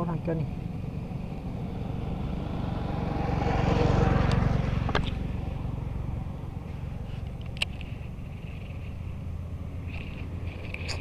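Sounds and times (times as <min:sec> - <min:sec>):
motor vehicle engine rumble passing: 0:00.0 - 0:11.0.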